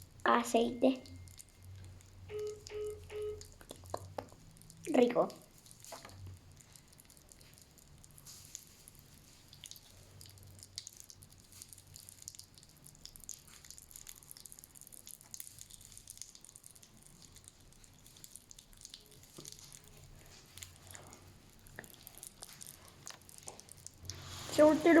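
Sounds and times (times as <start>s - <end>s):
popping candy crackling: 0.0s - 24.2s.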